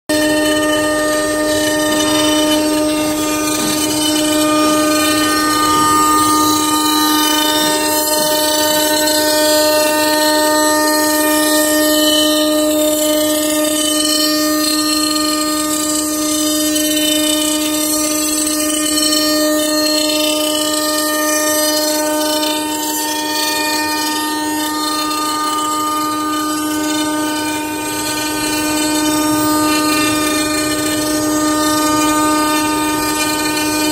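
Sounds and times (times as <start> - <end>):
bit carving wood: 0.1 - 33.9
router spindle whining: 0.1 - 33.9.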